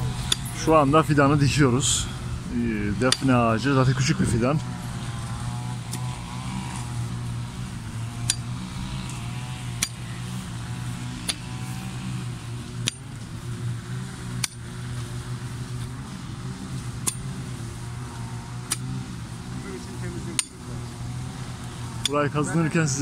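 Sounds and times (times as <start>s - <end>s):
brush cutters droning: 0.0s - 23.0s.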